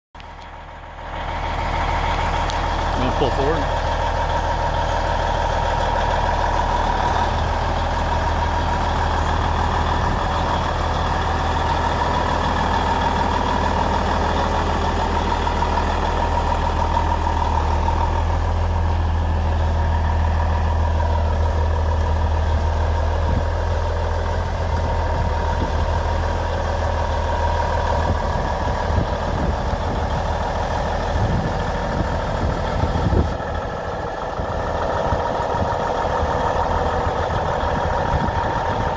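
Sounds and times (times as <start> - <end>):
truck diesel engine running: 0.2 - 38.9.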